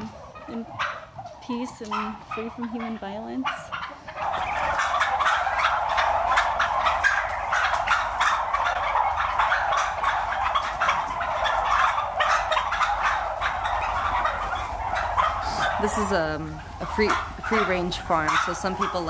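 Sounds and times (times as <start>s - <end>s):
turkeys gobbling: 0.0s - 19.0s.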